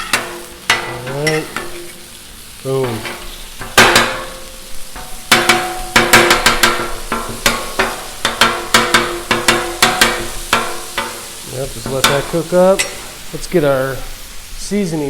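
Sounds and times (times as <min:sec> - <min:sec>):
metal spatula clacking on griddle: 0:00.0 - 0:13.3
meat sizzling on griddle: 0:00.0 - 0:15.0.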